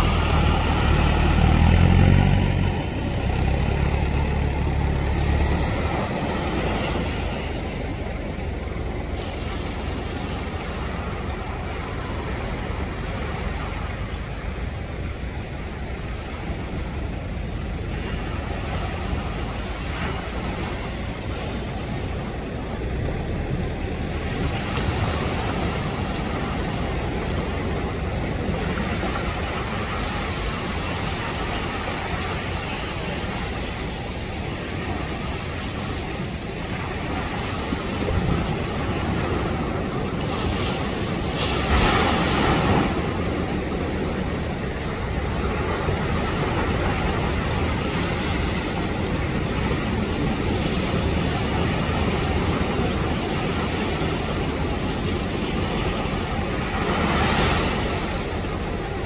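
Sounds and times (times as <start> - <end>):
surf breaking on a beach: 0.0 - 59.0.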